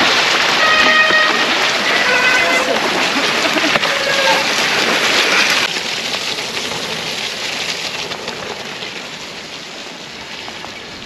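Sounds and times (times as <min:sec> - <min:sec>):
rain and wind hissing: 0:00.0 - 0:11.0.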